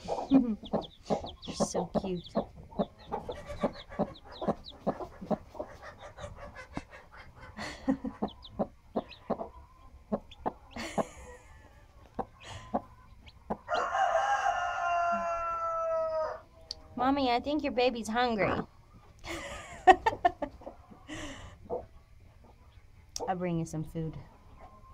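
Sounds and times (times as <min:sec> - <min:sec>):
chick peeping: 0:00.0 - 0:17.0, 0:18.3 - 0:19.2, 0:20.0 - 0:23.4, 0:24.1 - 0:24.9
hen clucking: 0:00.0 - 0:17.1, 0:18.2 - 0:19.2, 0:19.9 - 0:23.4.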